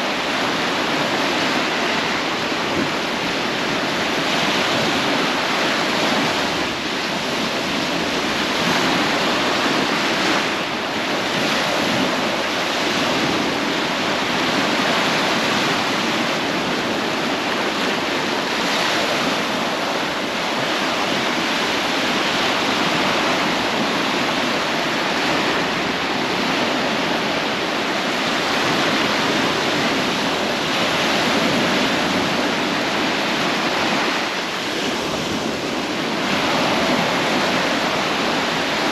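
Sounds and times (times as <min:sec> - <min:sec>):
surf washing onto beach: 0:00.0 - 0:38.9.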